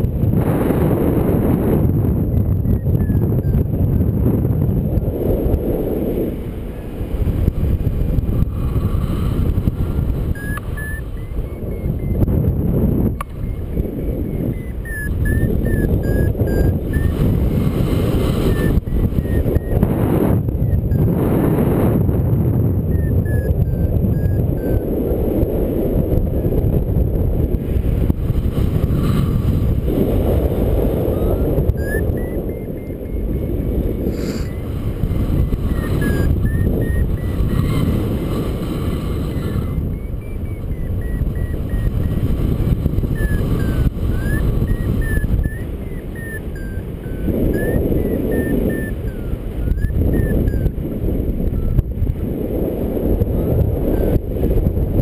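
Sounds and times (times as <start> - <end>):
variometer beeping: 0.0 - 52.1, 53.3 - 54.3
wind rushing over microphone: 0.0 - 55.0.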